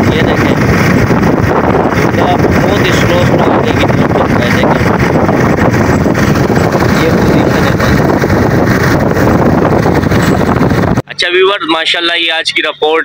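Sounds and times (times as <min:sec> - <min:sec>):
boat running noise: 0:00.0 - 0:11.0
wind buffeting microphone: 0:00.0 - 0:11.0.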